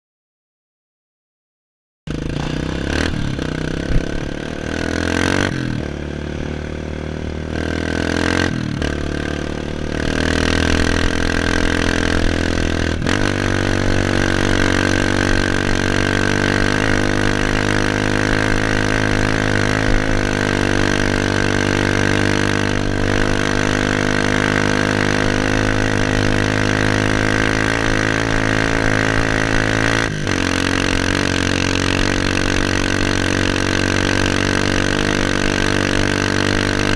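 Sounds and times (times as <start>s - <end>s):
motorcycle engine revving: 2.1s - 36.9s.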